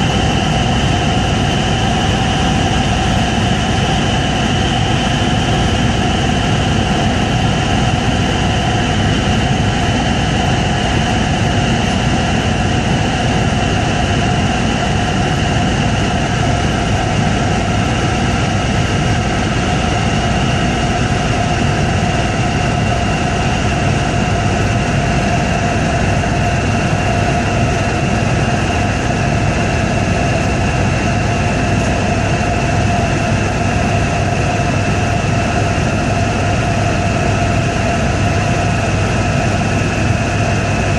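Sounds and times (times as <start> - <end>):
helicopter turbine whine: 0.0 - 40.9
low rotor rumble: 0.0 - 40.9.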